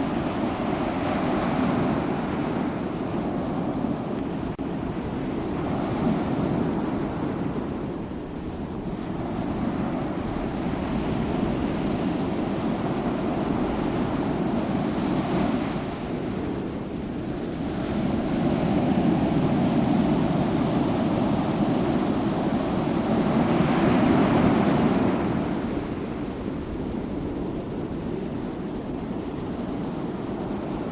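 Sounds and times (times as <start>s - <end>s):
sea waves breaking on shore: 0.0s - 30.9s.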